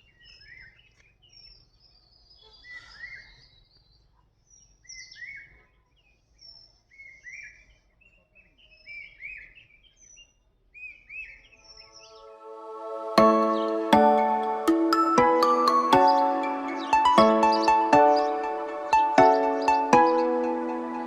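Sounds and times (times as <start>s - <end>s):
small birds chirping: 0.0s - 12.4s, 13.1s - 21.0s.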